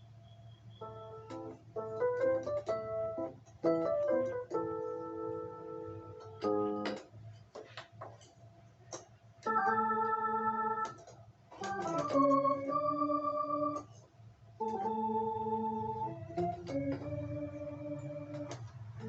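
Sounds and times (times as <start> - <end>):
organ chords: 0.0 - 7.2, 9.4 - 19.0.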